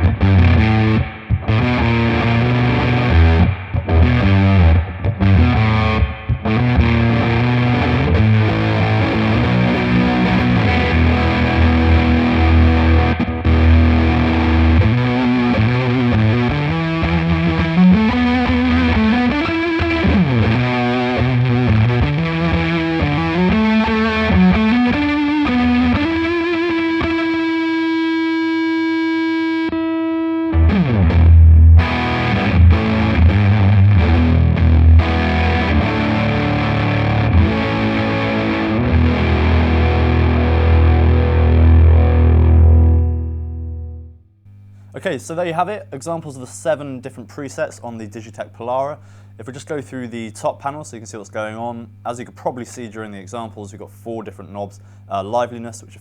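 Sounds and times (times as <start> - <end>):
distorted electric guitar with reverb: 0.0 - 44.9.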